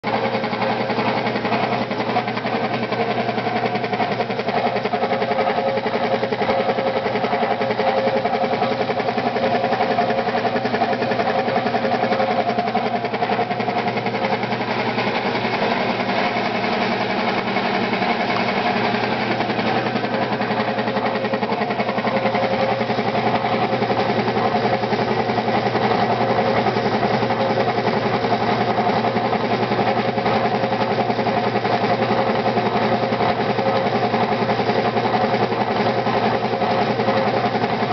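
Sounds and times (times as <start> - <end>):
air compressor running: 0.0 - 37.9.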